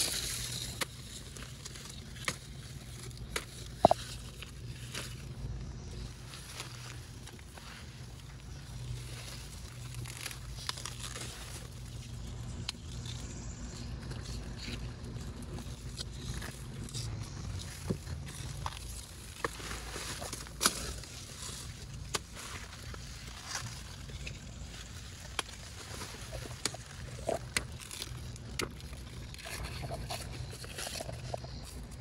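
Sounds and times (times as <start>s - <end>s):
plant stems snapping and rustling: 0.0s - 32.0s.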